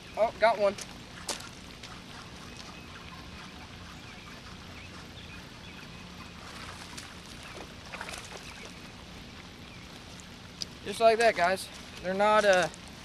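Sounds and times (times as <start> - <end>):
steady low hum: 0.0 - 13.0
light water splashes: 0.6 - 13.0.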